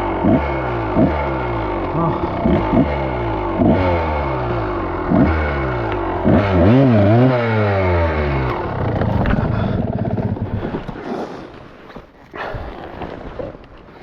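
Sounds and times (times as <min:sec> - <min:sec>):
dirt bike engine revving: 0:00.0 - 0:11.5.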